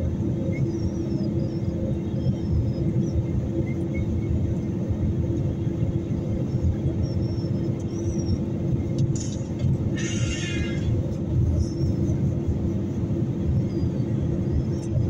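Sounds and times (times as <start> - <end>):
constant low hum: 0.0 - 15.0
jet engines roaring: 0.0 - 15.0.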